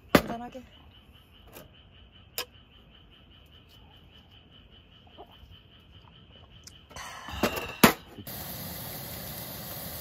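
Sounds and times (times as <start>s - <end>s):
frogs and insects trilling: 0.0s - 10.0s.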